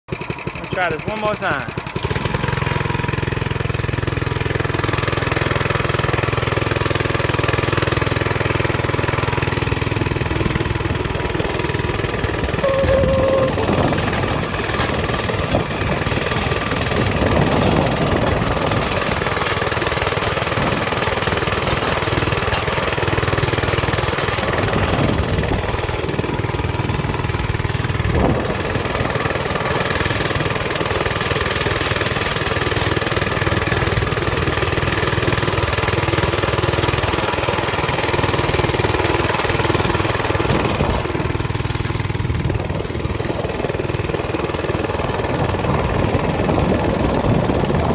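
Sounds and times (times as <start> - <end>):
small engine running: 0.1 - 47.9.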